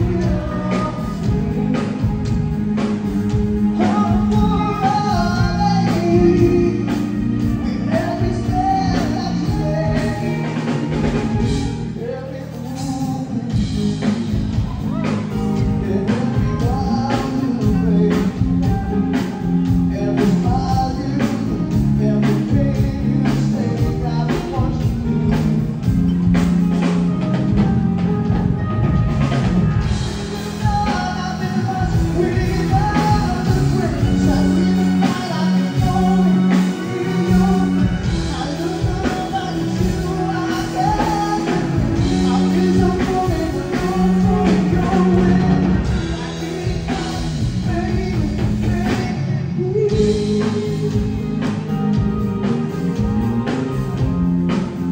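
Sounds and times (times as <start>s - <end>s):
person singing: 0.0s - 27.3s, 28.0s - 54.9s
live band playing: 0.0s - 54.9s
steady drum beat: 0.0s - 54.9s.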